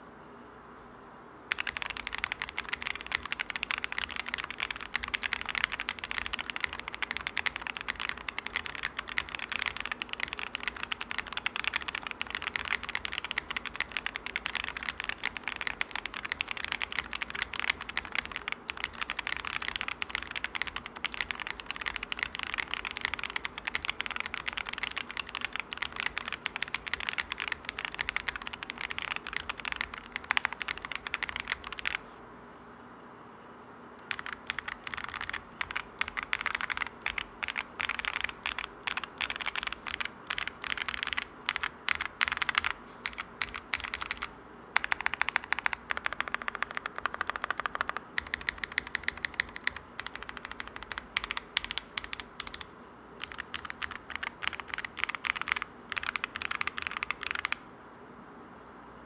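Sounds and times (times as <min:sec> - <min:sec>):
fast mechanical keyboard typing: 0:01.5 - 0:32.0, 0:34.0 - 0:57.6.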